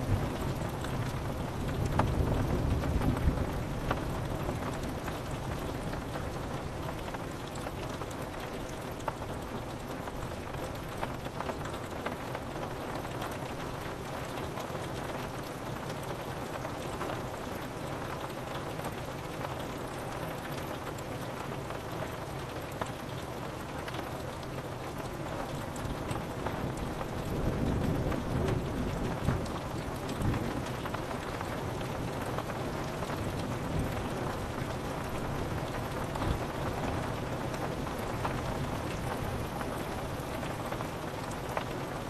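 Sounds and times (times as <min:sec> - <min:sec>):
rain on window glass: 0:00.0 - 0:42.0.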